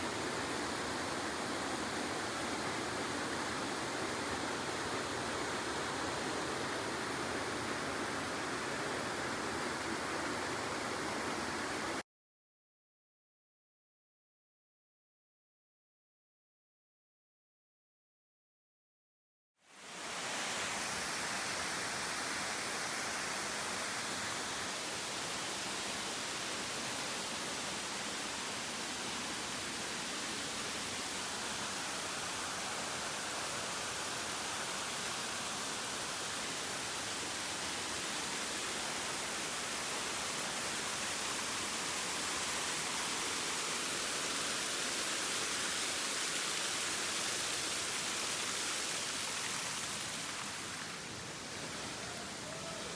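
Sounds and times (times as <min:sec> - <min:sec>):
waterfall rushing: 0:00.0 - 0:12.0, 0:19.9 - 0:52.9.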